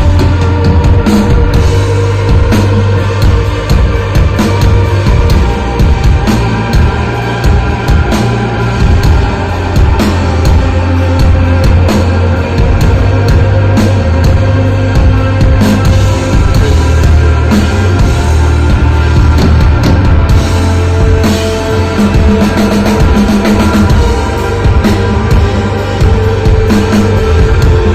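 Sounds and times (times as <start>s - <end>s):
instrumental rock band playing: 0.0s - 27.9s.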